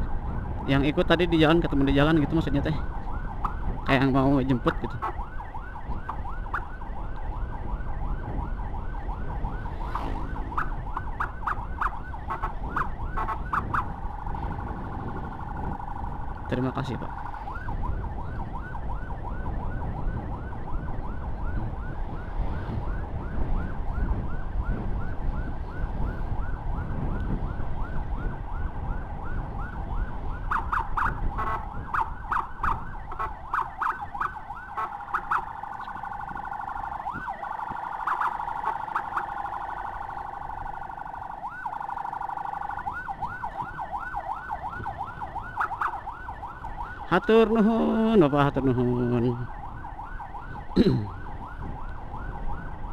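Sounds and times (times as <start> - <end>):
engine and wind rumble: 0.0 - 52.9
electronic siren yelping: 1.1 - 52.9.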